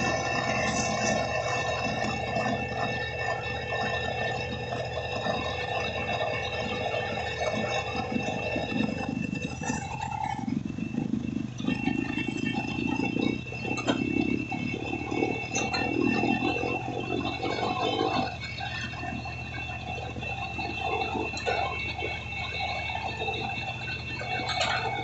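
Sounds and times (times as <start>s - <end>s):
diesel machinery running: 0.0s - 25.0s.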